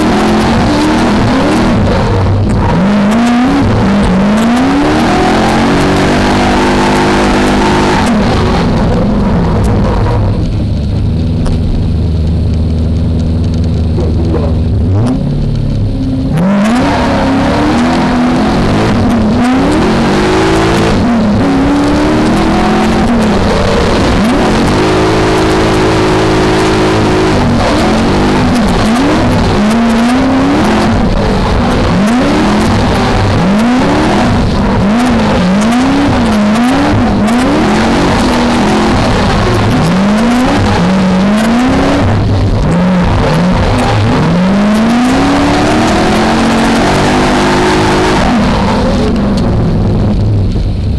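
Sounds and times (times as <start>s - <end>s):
car engine revving: 0.0s - 50.9s
steady rush of noise: 0.0s - 50.9s.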